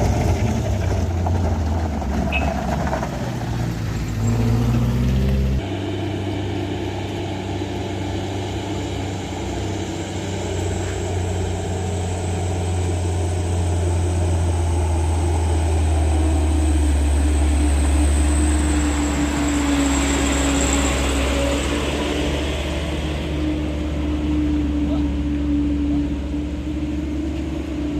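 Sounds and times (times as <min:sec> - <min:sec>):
truck diesel engine droning: 0:00.0 - 0:27.9.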